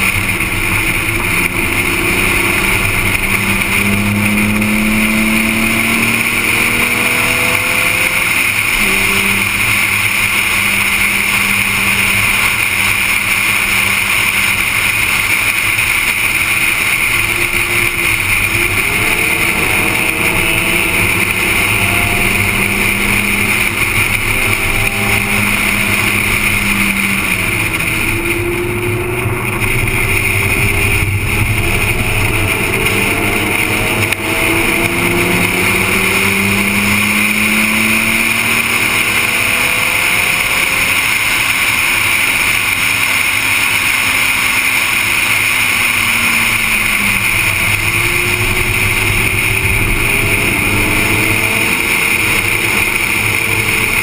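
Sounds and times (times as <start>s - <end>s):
racing car engine revving: 0.0s - 54.0s
wind and road noise: 0.0s - 54.0s.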